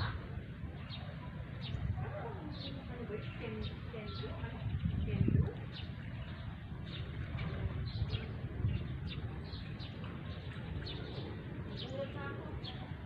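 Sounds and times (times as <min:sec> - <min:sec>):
birds chirping: 0:00.0 - 0:13.0
wind rumble on microphone: 0:00.0 - 0:13.0.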